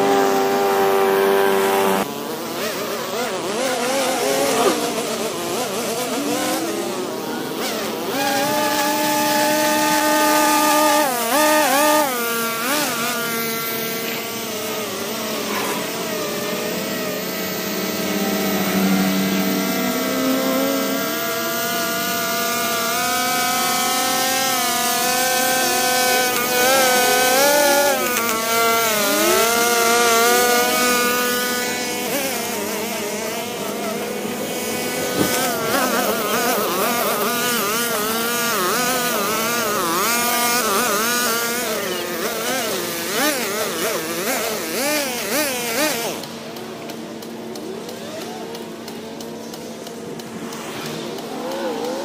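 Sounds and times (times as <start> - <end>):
string trimmer cutting grass: 0.0 - 52.0.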